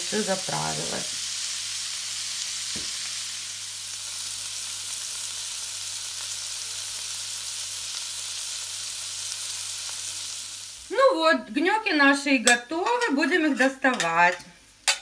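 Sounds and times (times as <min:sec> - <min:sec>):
food sizzling in butter: 0:00.0 - 0:15.0.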